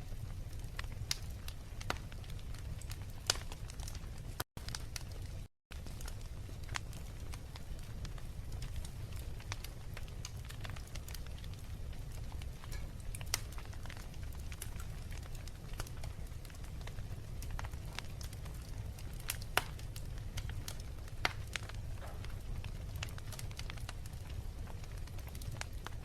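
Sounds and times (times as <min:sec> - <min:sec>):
low fire rumble: 0:00.0 - 0:26.0
wood fire crackling: 0:00.0 - 0:26.0
sharp fire pops: 0:00.4 - 0:26.0.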